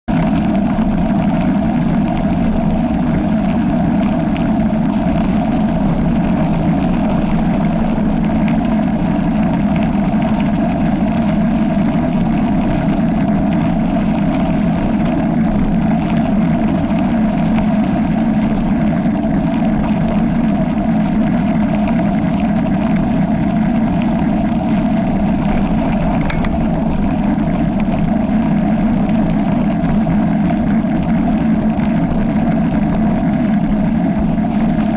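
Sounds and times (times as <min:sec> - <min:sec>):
bicycle tyres rolling on trail: 0:00.1 - 0:34.9
rush of air: 0:00.1 - 0:34.9.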